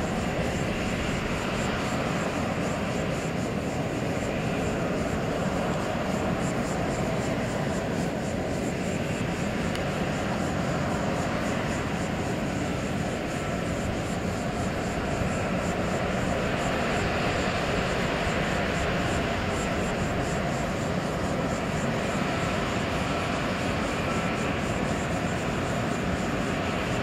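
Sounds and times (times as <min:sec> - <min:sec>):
faint high whine: 0:00.0 - 0:27.0
jet engine noise: 0:00.0 - 0:27.0.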